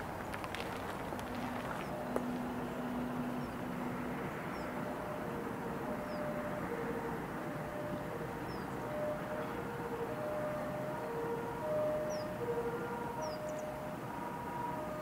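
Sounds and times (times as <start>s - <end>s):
distant church bells ringing: 1.2s - 15.0s.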